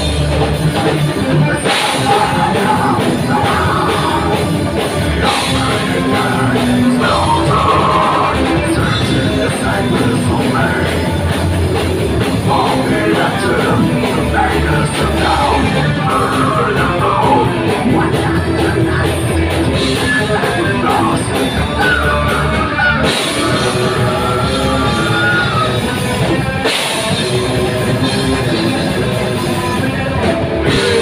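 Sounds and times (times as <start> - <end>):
person singing and yelling: 0.0 - 26.3, 30.1 - 31.0
heavy metal band playing: 0.0 - 31.0.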